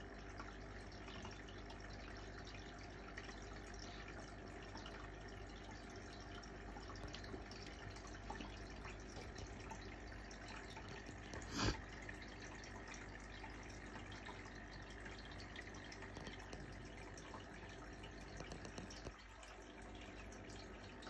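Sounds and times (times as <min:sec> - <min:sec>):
aquarium filter water trickling: 0:00.0 - 0:21.0
small water drips: 0:00.0 - 0:21.0.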